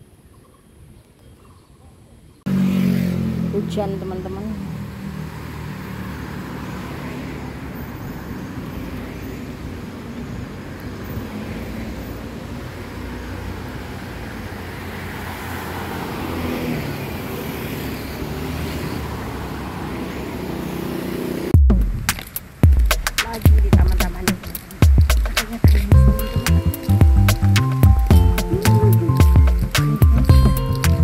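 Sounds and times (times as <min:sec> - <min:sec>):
car passing: 0:02.4 - 0:31.0.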